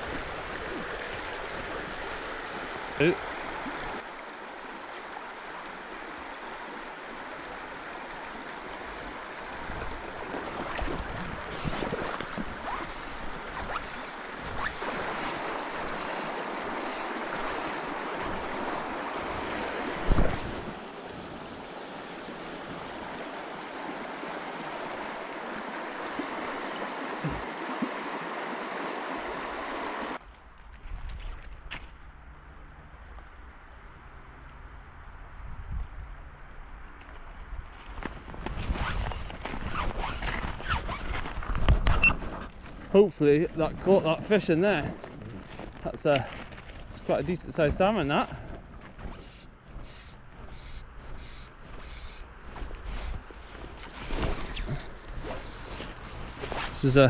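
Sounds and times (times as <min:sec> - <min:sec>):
river water over stones: 0:00.0 - 0:31.4, 0:36.7 - 0:57.0.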